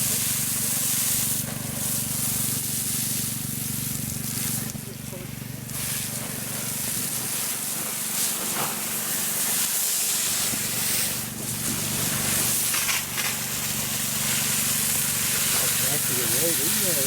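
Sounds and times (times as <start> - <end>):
fire hose spraying water: 0.0 - 17.0.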